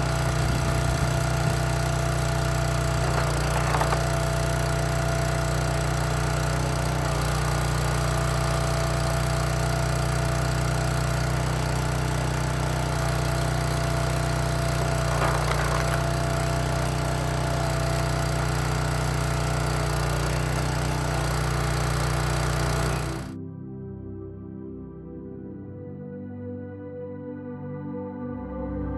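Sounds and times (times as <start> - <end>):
wood splitting crackle: 0.0 - 23.3
log splitter engine running: 0.0 - 23.4.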